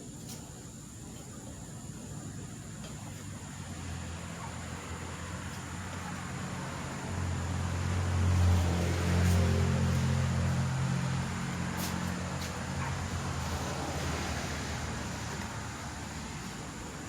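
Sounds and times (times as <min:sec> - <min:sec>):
low engine hum: 0:03.0 - 0:17.0.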